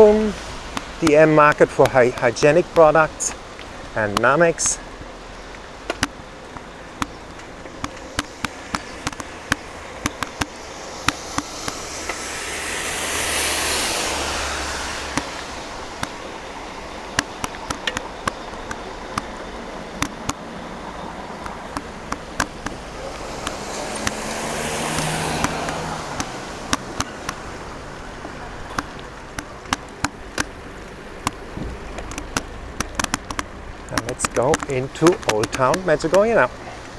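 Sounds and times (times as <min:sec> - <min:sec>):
raindrops ticking on microphone: 0:00.0 - 0:36.9
tyres hissing on wet road: 0:00.0 - 0:36.9.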